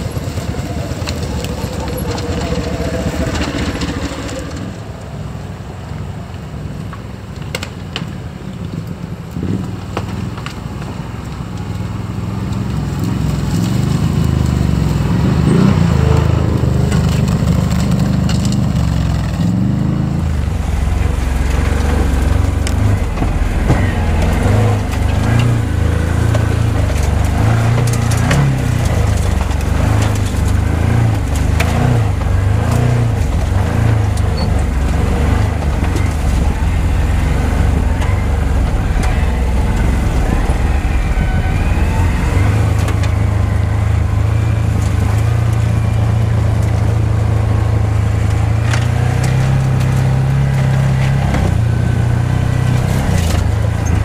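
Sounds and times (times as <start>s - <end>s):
knocks and rattles of vehicle: 0.0s - 54.0s
utility vehicle engine running: 0.0s - 54.0s.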